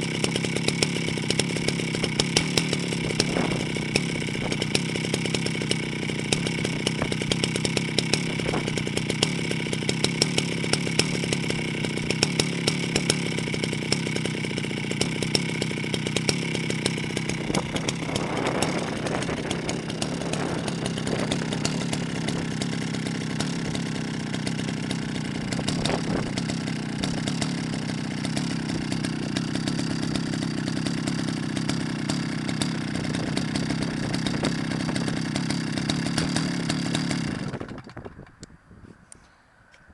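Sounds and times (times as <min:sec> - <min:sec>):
chainsaw engine running: 0:00.0 - 0:39.8.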